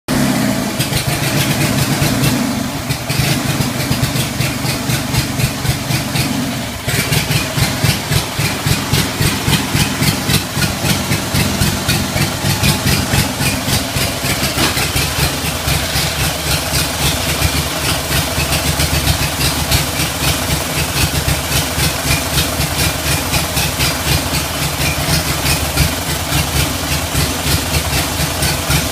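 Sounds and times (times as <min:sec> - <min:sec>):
lawn mower engine running: 0:00.1 - 0:28.9.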